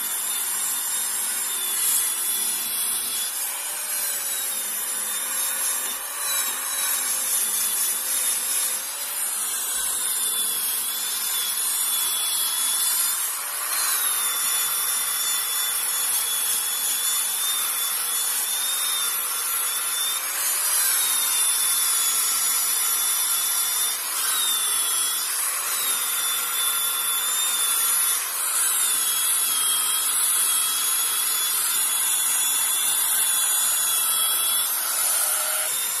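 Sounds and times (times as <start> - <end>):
electric drill motor whine: 0.0 - 36.0.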